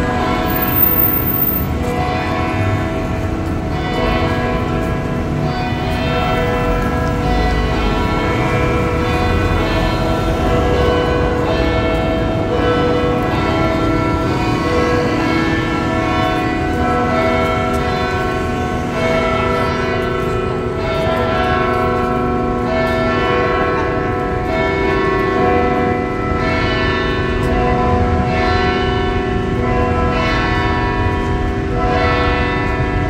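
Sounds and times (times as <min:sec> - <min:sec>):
church bells pealing: 0:00.0 - 0:33.0.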